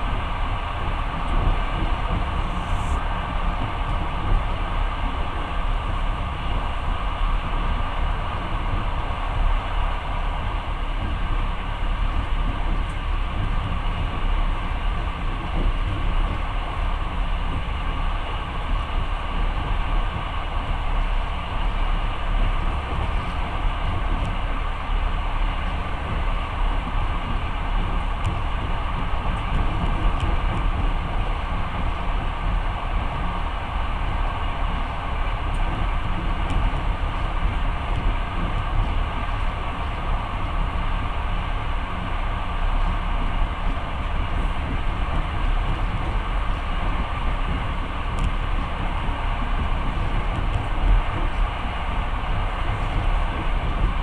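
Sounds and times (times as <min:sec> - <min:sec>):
train running on track: 0:00.0 - 0:54.0.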